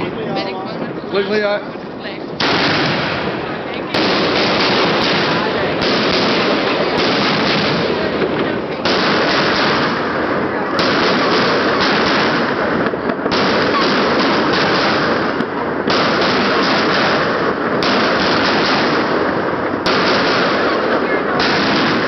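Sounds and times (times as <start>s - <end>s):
fireworks crackling bangs: 0.0s - 22.0s.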